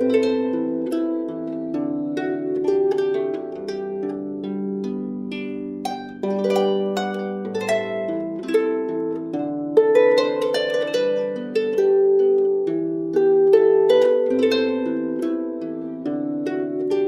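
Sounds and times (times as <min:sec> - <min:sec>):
harp melody: 0:00.0 - 0:17.0.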